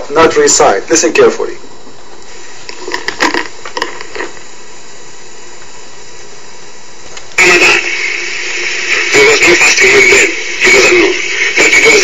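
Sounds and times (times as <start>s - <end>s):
harsh distorted video playback audio: 0.0s - 12.0s
steady hiss: 0.0s - 12.0s.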